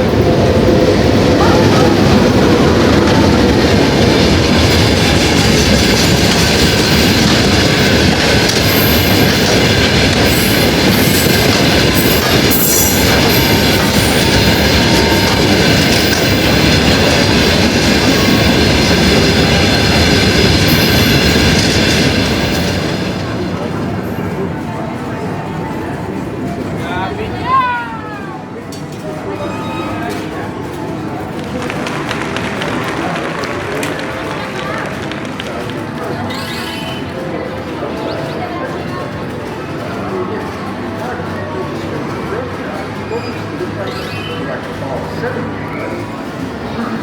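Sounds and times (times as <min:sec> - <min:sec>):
playground ride train running: 0:00.0 - 0:47.0.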